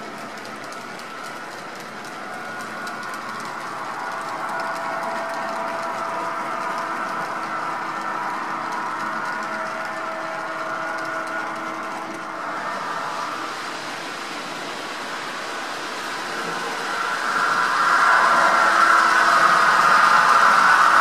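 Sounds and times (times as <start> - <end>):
electric locomotive hum and whine: 0.0 - 21.0
model train cars rolling on track: 0.0 - 21.0.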